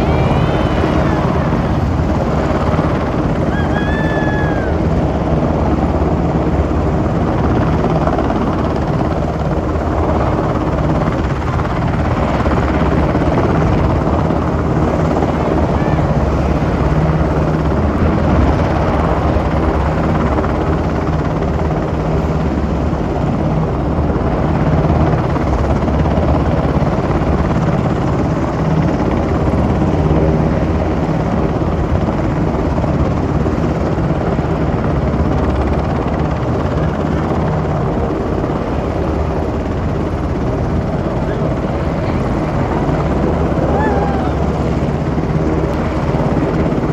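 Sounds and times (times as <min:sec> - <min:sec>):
helicopter rotor drone: 0:00.0 - 0:46.9.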